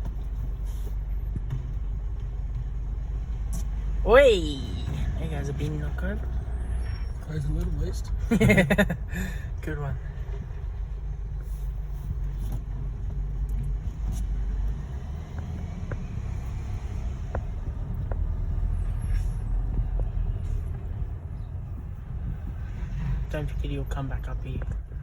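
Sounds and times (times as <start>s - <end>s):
garbage truck engine rumbling: 0.0s - 25.0s.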